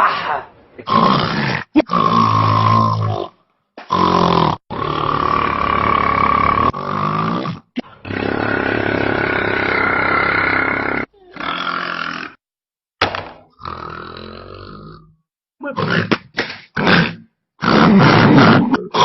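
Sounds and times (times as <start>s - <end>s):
person snoring loudly: 0.9s - 12.4s, 13.5s - 15.2s, 15.8s - 19.0s.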